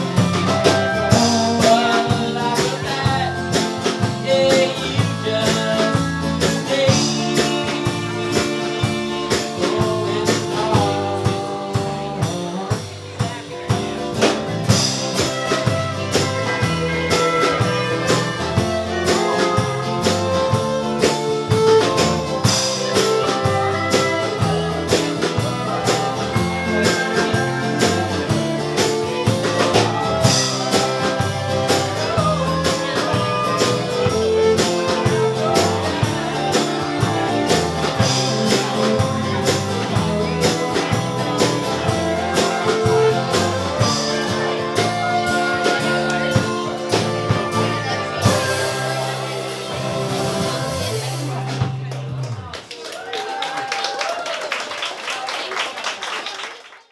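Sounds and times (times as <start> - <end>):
strummed acoustic guitar: 0.0 - 52.2
electric bass: 0.0 - 52.6.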